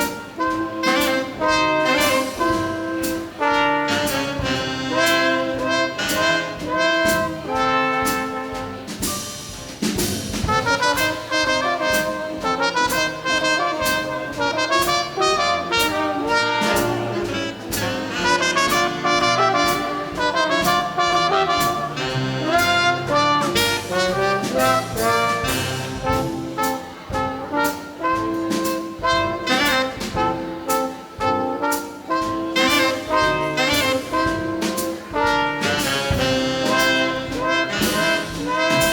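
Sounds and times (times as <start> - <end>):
big band swing jazz: 0.0 - 38.9
trombone: 0.0 - 38.9
trumpet: 0.0 - 38.9.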